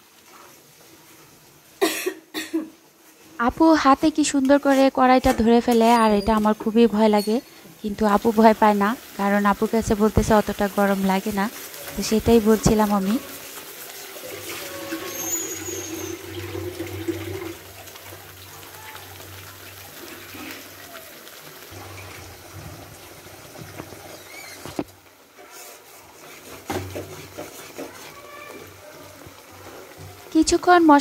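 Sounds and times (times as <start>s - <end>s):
paste bubbling and sizzling: 0.0s - 31.0s
spatula stirring in pan: 4.4s - 31.0s.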